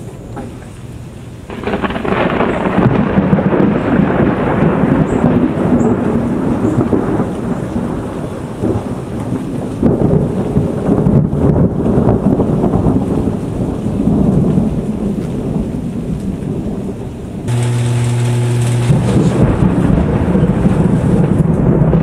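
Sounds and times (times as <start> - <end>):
thunder rumbling: 1.5 - 22.0.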